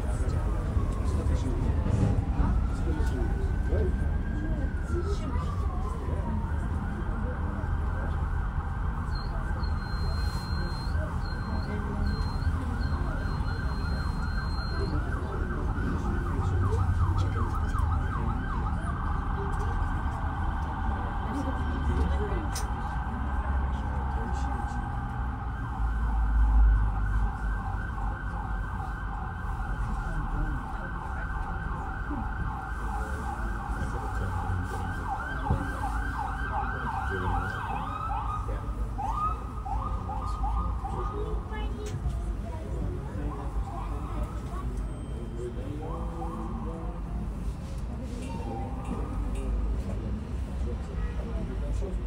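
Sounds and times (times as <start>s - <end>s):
emergency siren yelping: 0.0s - 47.1s.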